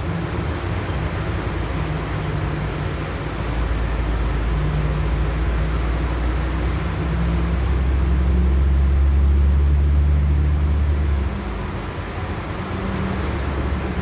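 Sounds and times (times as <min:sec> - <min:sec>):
bus engine drone: 0:00.0 - 0:14.0
road and cabin noise: 0:00.0 - 0:14.0.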